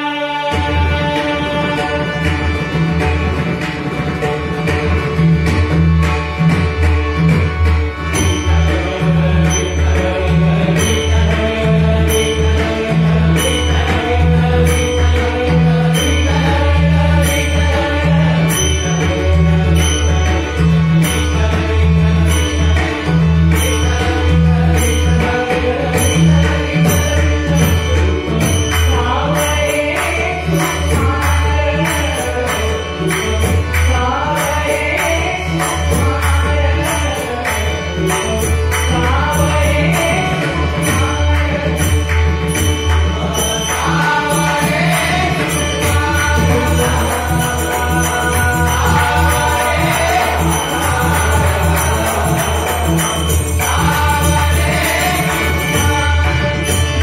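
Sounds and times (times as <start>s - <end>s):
man singing: 0.0s - 2.4s, 8.2s - 23.0s, 23.6s - 57.0s
harmonium sustained notes: 5.9s - 57.0s.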